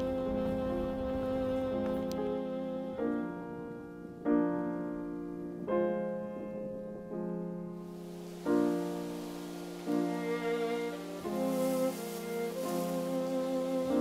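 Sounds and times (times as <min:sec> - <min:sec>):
slow solo piano chords: 0:00.0 - 0:14.0.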